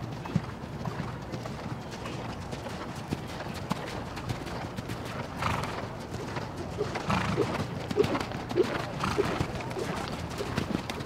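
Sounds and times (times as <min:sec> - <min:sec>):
horse hooves cantering: 0:00.0 - 0:11.0.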